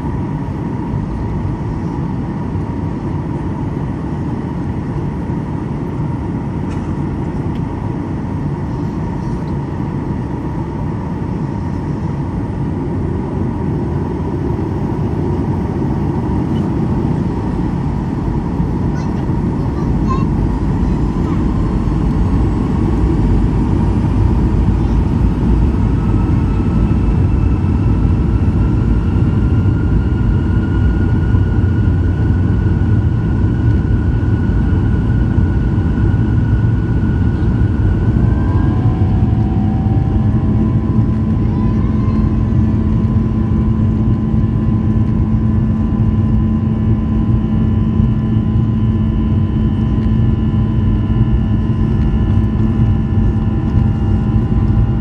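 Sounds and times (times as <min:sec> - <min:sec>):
jet engine whine rising: 0:00.0 - 0:55.0
jet engines rumbling: 0:00.0 - 0:55.0.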